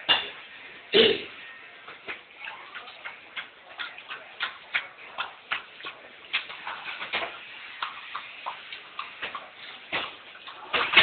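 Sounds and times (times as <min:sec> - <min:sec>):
dog lapping from a bowl: 0:01.3 - 0:11.0.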